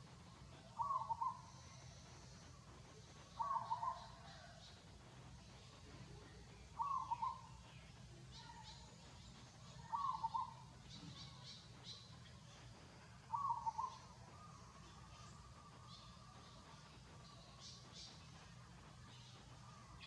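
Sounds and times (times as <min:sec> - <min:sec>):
faint high chirping: 0:00.0 - 0:20.0.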